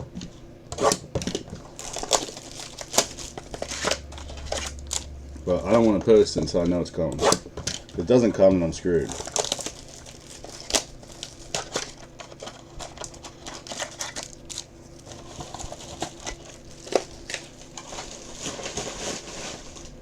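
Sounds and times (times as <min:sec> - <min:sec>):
card wrappers crinkling: 0:01.2 - 0:06.9, 0:08.8 - 0:20.0.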